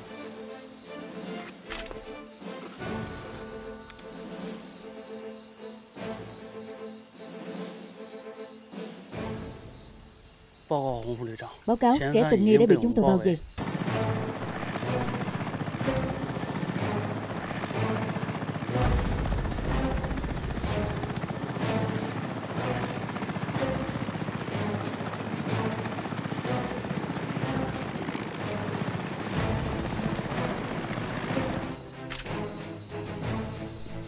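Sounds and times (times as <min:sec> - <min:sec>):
helicopter running: 0:00.0 - 0:10.2, 0:10.8 - 0:34.0
tense pulsing film score: 0:00.0 - 0:34.0.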